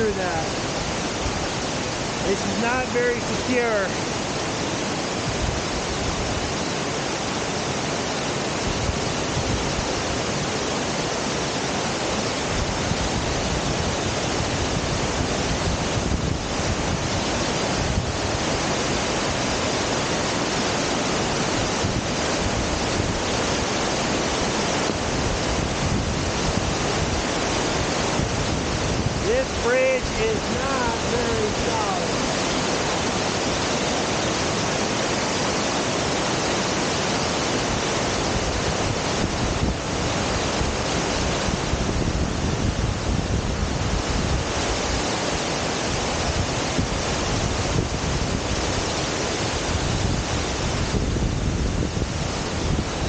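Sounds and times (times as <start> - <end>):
stream tumbling over rocks: 0.0 - 53.0
waterfall rushing: 0.0 - 53.0.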